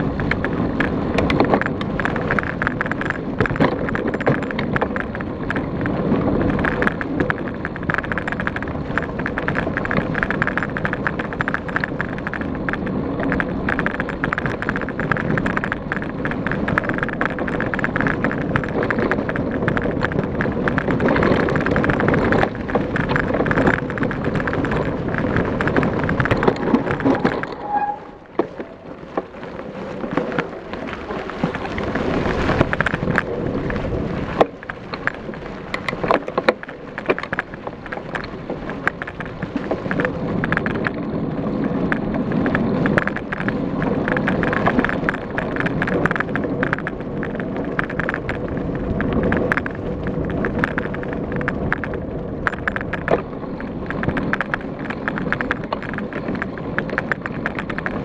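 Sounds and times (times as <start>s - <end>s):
bike rattling and knocking: 0.0s - 58.0s
tyres rolling on dirt and leaves: 0.0s - 58.0s
wind on microphone: 0.0s - 58.0s.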